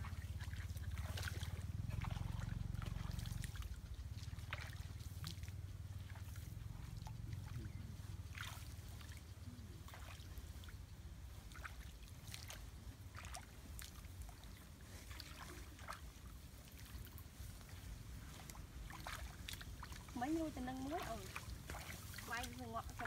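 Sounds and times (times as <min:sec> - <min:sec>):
footsteps splashing in mud: 0:00.1 - 0:23.0.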